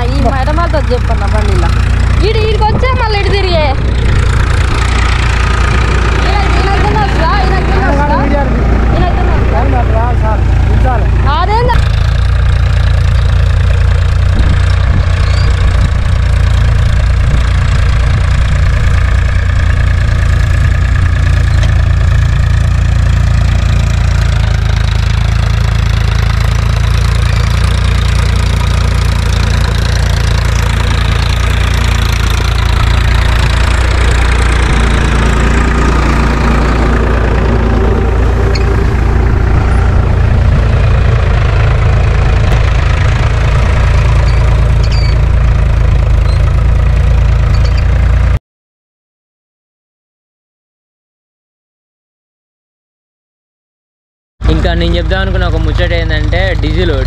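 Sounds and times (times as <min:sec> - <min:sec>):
diesel tractor engine running: 0:00.0 - 0:48.4, 0:54.4 - 0:57.0.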